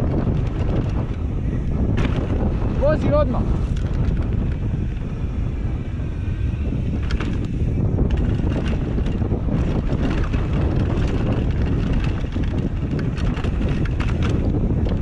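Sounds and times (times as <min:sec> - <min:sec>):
bike clicks and rattles: 0:00.0 - 0:15.0
bike tyre noise on dirt: 0:00.0 - 0:15.0
wind buffeting microphone: 0:00.0 - 0:15.0.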